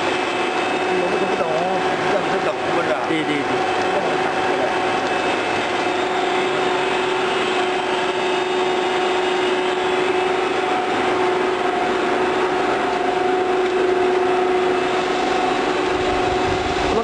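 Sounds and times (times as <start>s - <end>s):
machinery drone and hum: 0.0s - 17.0s.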